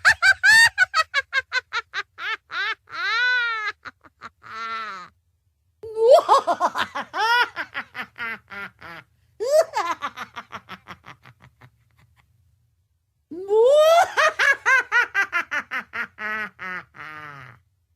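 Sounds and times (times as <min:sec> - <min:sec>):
witch cackling laugh: 0:00.0 - 0:05.1, 0:05.9 - 0:12.3, 0:13.5 - 0:17.6.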